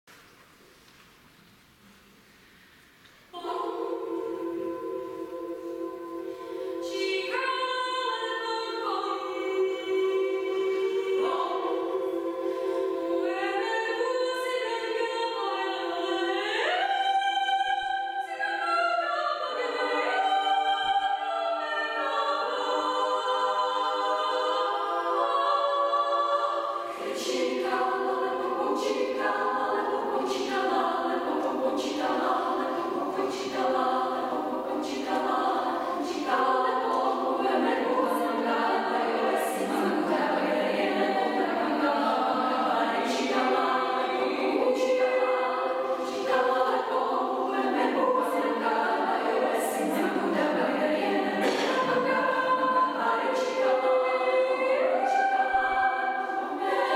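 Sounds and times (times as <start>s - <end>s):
women's choir singing a cappella: 3.3s - 56.9s.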